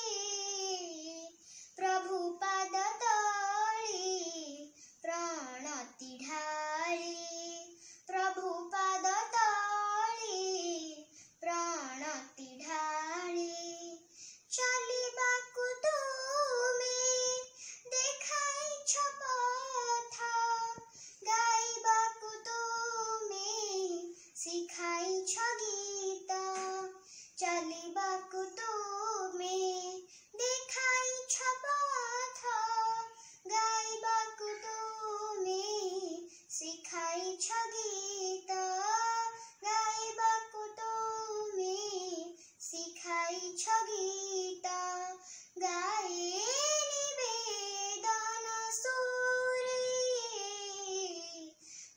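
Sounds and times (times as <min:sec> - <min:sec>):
girl singing unaccompanied: 0:00.0 - 0:51.9.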